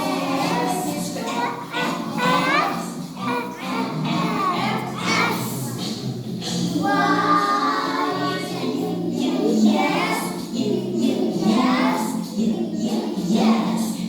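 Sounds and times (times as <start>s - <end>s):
children singing: 0.0s - 14.0s
music: 0.0s - 14.0s.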